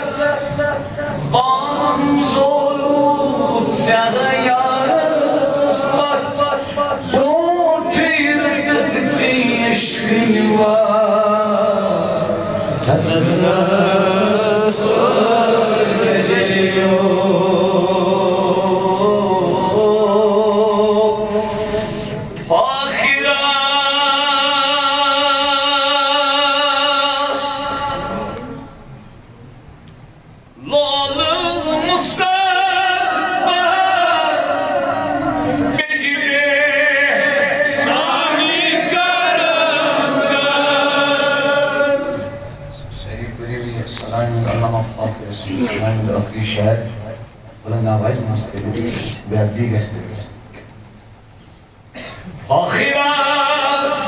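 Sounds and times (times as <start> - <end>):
man chanting: 0.0 - 28.7, 30.6 - 50.4, 52.5 - 54.0.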